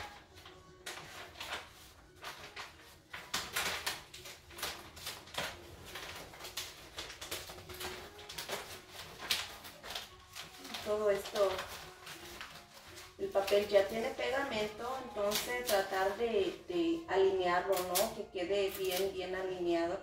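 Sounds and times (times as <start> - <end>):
contact paper crinkling: 0.0 - 16.7, 17.7 - 19.2.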